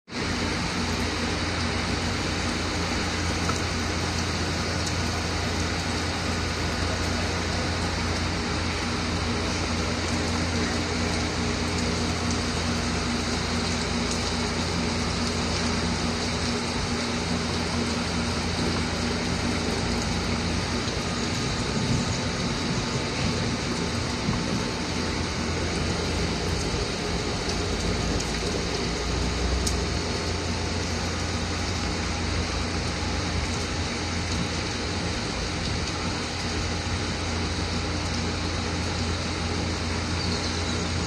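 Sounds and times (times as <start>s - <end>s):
steady rain: 0.0s - 41.0s
low steady hum: 0.1s - 41.0s.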